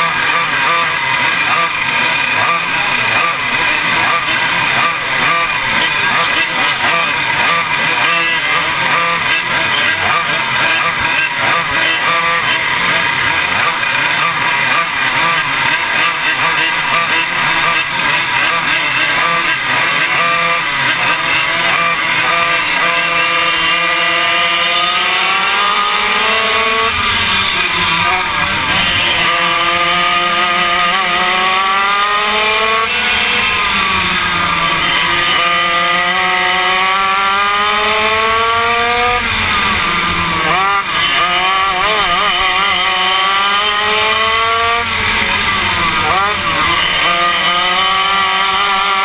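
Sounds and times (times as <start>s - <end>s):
kart engine revving: 0.0s - 49.0s
other kart engines: 0.0s - 49.0s.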